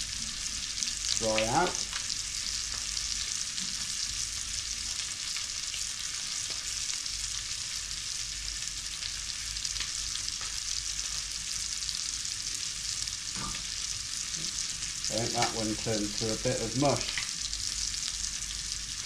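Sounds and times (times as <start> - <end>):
fish frying in a pan: 0.0 - 19.0.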